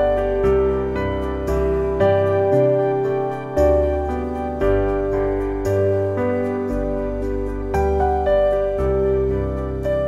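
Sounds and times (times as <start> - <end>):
soft slow keyboard music: 0.0 - 10.0.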